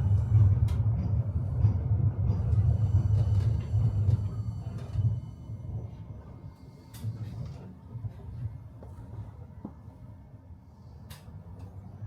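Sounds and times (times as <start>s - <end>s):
tram car rumbling: 0.0s - 12.0s.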